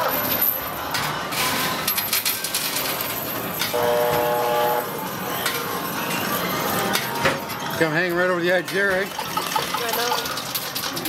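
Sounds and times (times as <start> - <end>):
game tokens clinking: 0.1 - 3.8, 4.9 - 11.0.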